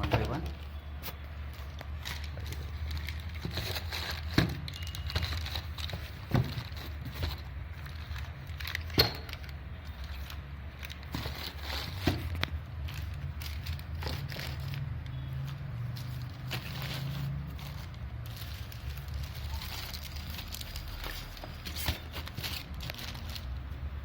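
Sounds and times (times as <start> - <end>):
packaging rustling and crinkling: 0.0 - 23.9.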